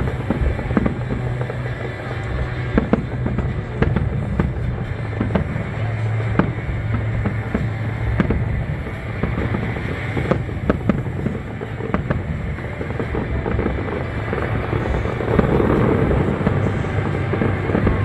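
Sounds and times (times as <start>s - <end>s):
continuous low noise: 0.0s - 18.0s
fireworks cracking: 0.0s - 18.0s.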